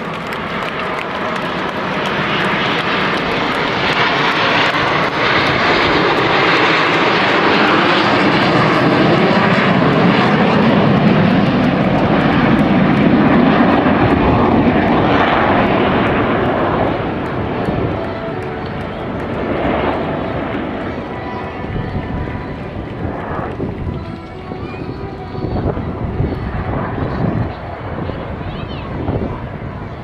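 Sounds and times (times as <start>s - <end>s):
jet aircraft roaring overhead: 0.0s - 30.0s.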